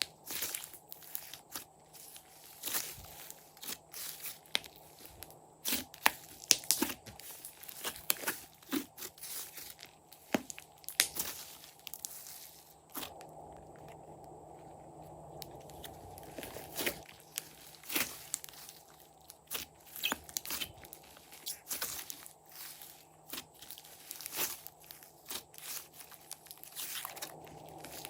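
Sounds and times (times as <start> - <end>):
slime squishing with sticky pops: 0.0 - 14.3, 15.4 - 28.0.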